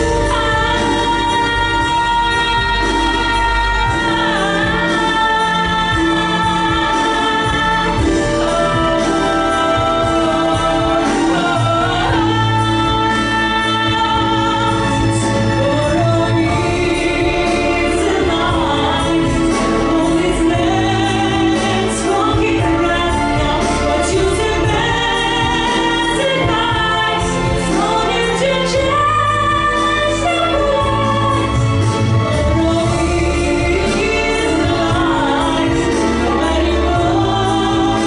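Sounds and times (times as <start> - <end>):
instrumental accompaniment: 0.0 - 38.0
person singing: 0.0 - 38.0.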